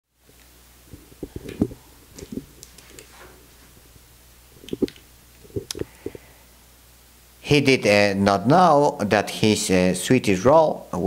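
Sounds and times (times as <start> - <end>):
faint low hum: 0.2 - 11.0.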